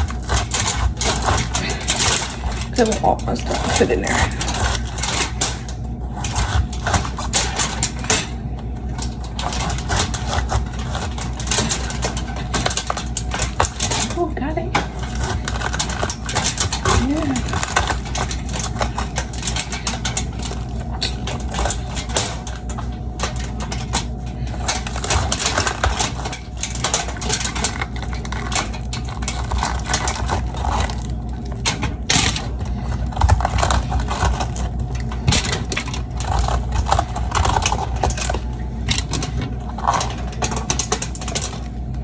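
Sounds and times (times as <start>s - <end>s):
steady low hum: 0.0s - 42.0s
utensils clicking and knocking: 0.0s - 42.0s.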